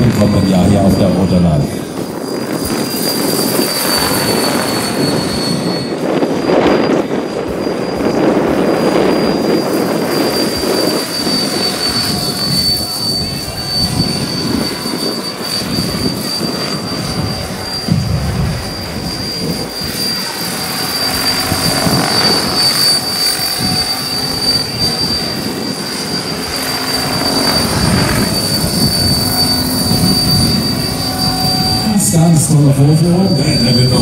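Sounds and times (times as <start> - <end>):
high whine: 0.0 - 34.0.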